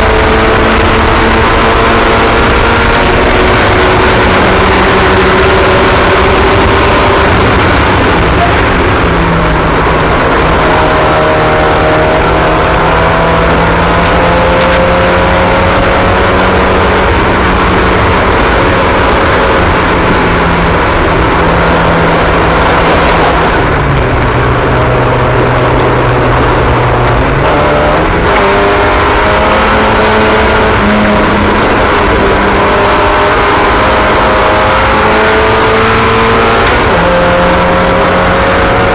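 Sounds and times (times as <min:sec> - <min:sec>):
racing car engines: 0:00.0 - 0:38.9.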